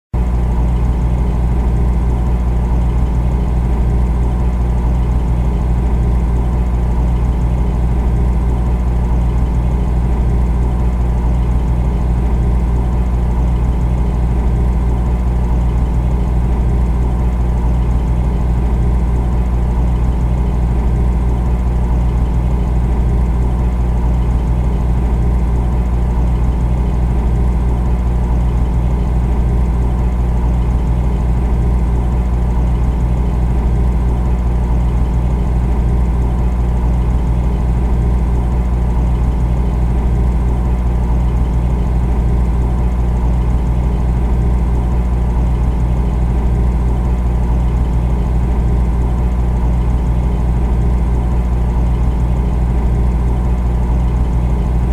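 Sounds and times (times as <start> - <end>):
refrigerator compressor humming: 0.2 - 54.9.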